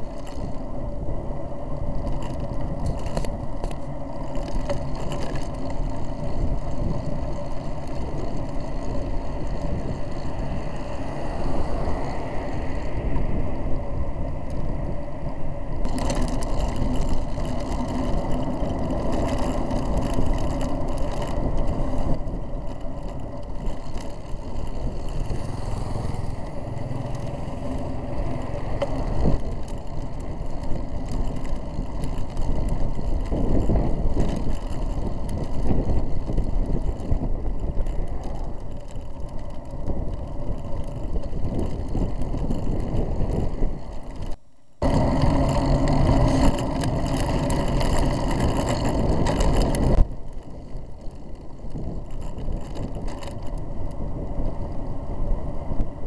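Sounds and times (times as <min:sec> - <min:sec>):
bicycle tyre and wind rumble: 0:00.0 - 0:56.0.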